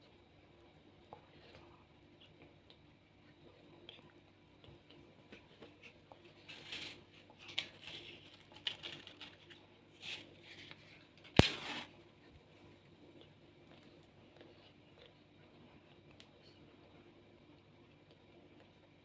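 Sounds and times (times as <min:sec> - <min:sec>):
soft rustling and handling noises: 0:00.6 - 0:19.0.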